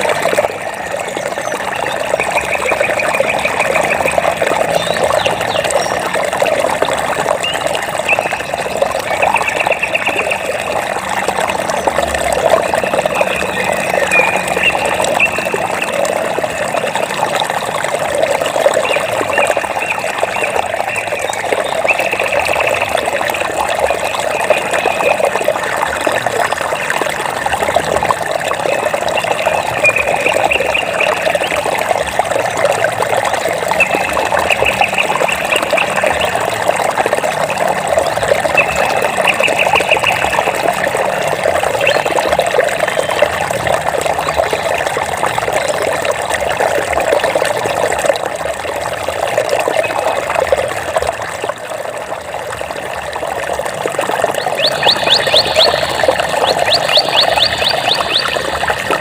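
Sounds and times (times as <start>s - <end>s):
water babbling over stones: 0.0s - 59.0s.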